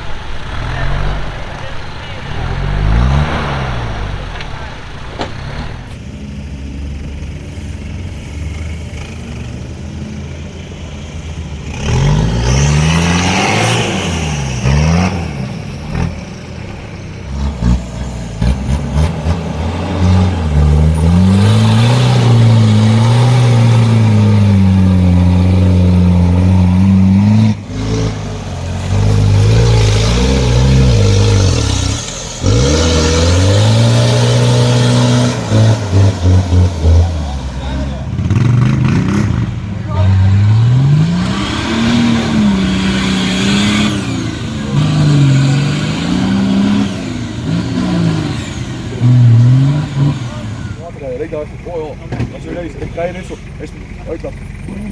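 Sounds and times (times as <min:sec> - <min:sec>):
off-road engine revving: 0:00.0 - 0:54.9.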